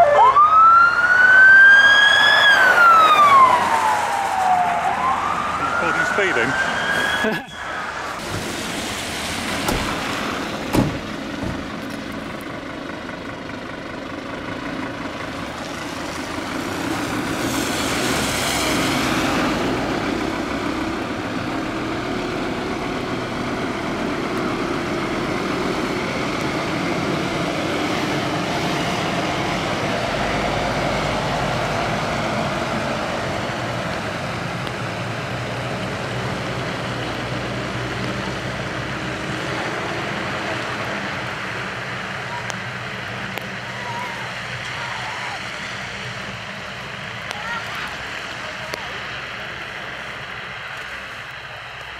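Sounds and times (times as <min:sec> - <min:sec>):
diesel truck engine driving away: 0:00.0 - 0:51.9.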